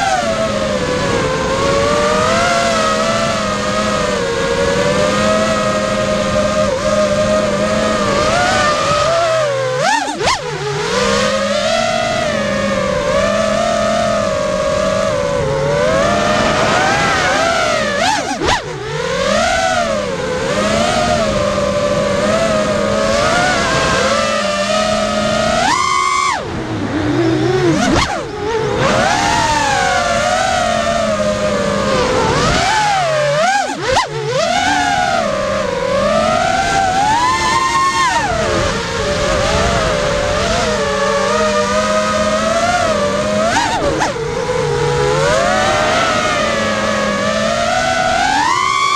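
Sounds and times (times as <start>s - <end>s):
quadcopter motors whining: 0.0s - 48.9s.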